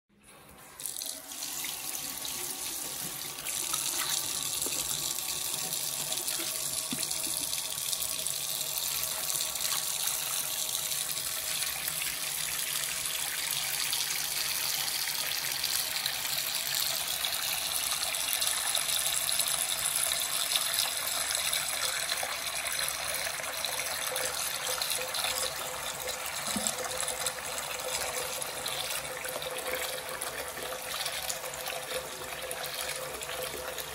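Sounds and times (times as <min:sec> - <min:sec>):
tap water running into basin: 0:00.2 - 0:33.9.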